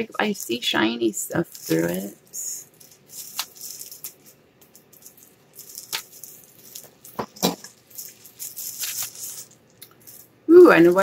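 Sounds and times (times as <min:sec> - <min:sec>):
plastic packaging crinkling: 0:01.3 - 0:11.0.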